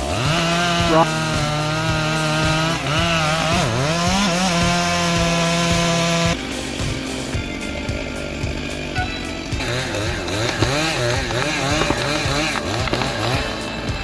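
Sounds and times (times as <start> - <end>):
chainsaw cutting wood: 0.0 - 14.0
quieter engine idling: 0.0 - 14.0.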